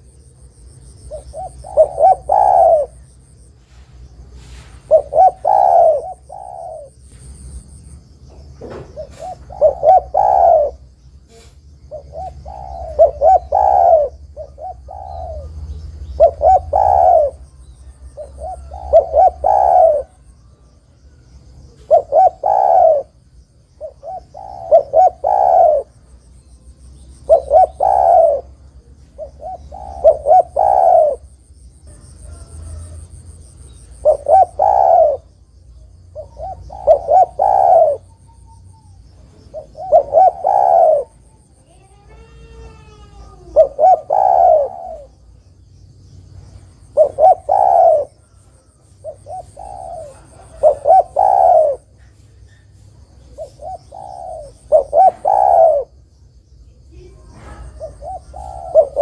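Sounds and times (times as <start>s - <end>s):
dove cooing: 0.0s - 7.4s, 8.6s - 20.9s, 21.5s - 45.5s, 46.8s - 56.0s, 56.8s - 59.0s.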